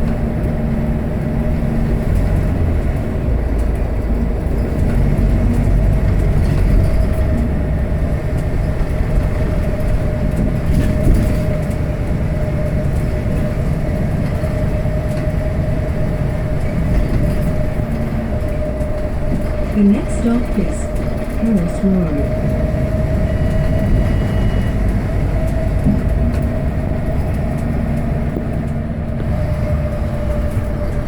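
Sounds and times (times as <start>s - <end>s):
bus diesel engine rumble: 0.0s - 31.0s.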